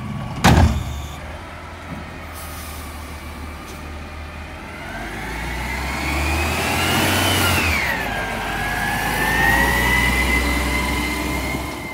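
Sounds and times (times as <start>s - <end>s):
garbage truck accelerating: 0.0s - 11.9s.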